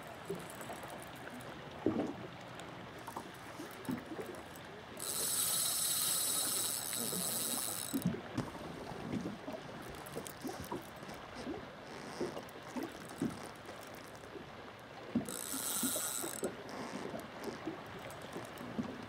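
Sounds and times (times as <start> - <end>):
small waves lapping against boat: 0.0 - 19.0.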